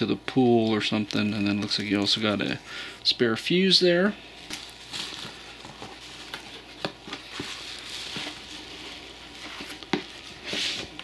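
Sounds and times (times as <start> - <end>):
bubble wrap and cardboard rustling: 0.0 - 2.6, 3.3 - 11.0.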